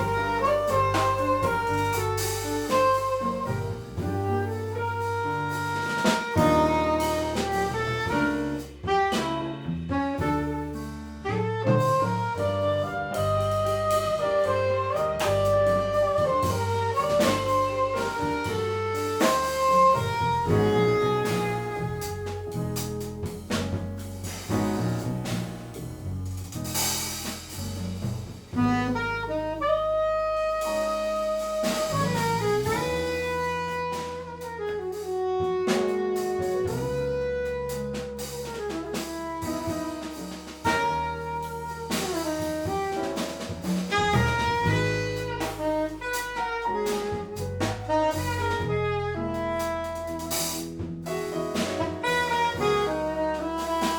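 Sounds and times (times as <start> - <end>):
tenor saxophone melody: 0.0 - 23.6, 28.5 - 53.9
drum kit: 0.0 - 53.9
piano: 0.0 - 53.9
upright bass: 0.0 - 53.9.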